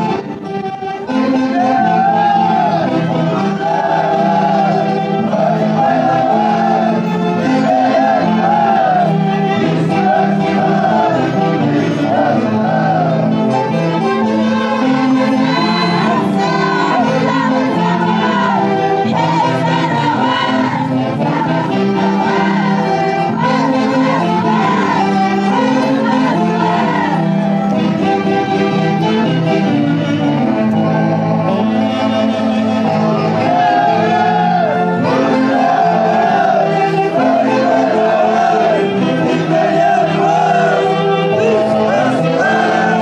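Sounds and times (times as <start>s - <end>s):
orchestra playing wavering melody: 0.0s - 43.0s.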